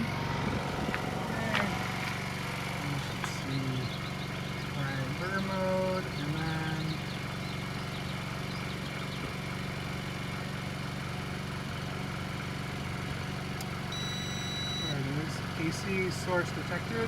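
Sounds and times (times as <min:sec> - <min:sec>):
generator humming: 0:00.0 - 0:17.0.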